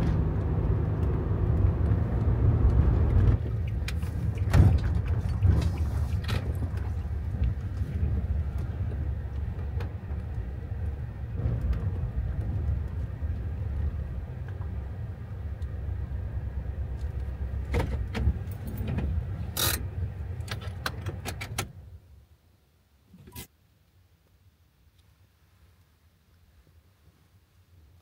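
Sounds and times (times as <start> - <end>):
van engine and road rumble: 0.0 - 28.0.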